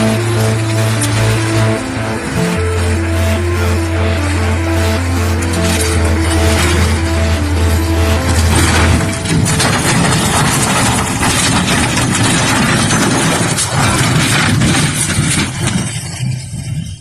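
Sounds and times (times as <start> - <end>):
large engine running loudly: 0.0 - 16.7.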